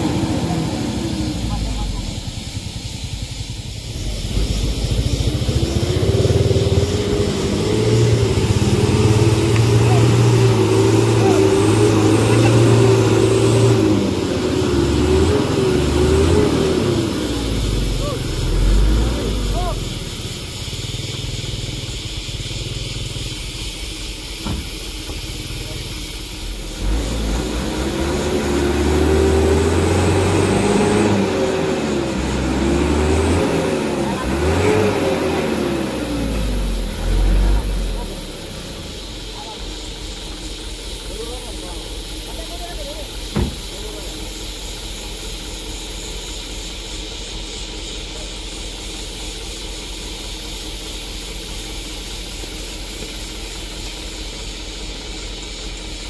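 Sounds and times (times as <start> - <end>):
truck engine revving hard: 0.0 - 56.0.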